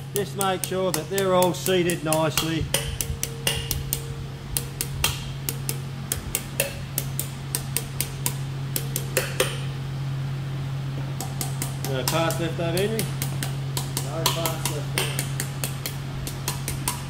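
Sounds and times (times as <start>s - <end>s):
hammer tapping metal: 0.0s - 9.8s, 11.2s - 17.0s.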